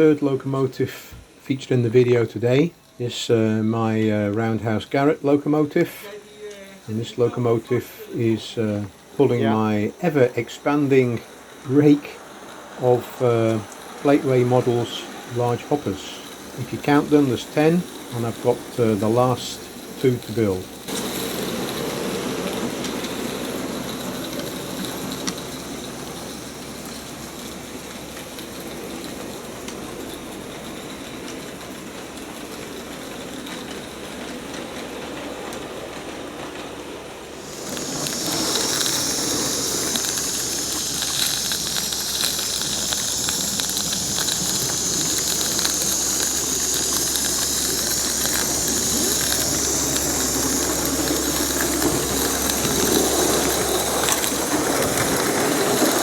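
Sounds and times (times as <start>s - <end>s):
model steam locomotive hissing: 0.0s - 56.0s.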